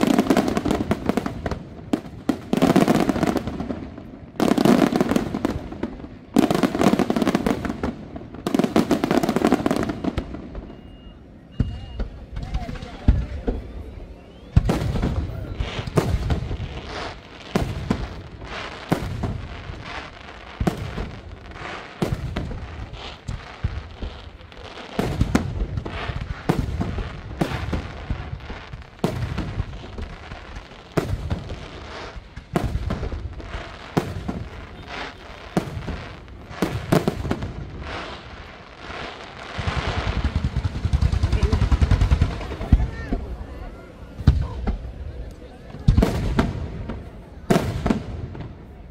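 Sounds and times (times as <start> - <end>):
fireworks bursting with bangs: 0.0 - 48.9.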